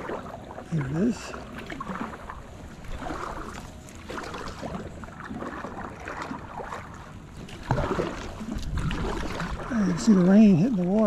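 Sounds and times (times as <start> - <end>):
paddle strokes splashing in water: 0.0 - 11.0.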